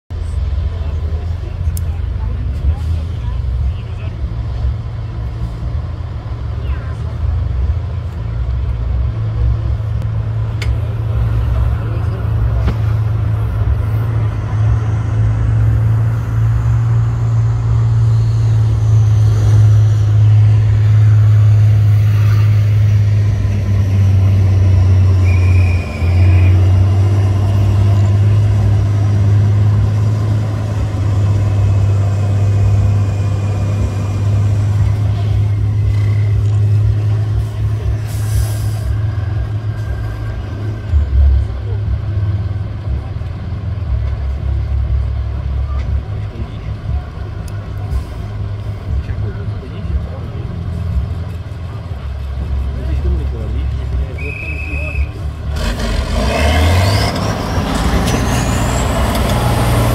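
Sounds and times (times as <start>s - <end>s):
diesel engine drone: 0.1s - 59.9s.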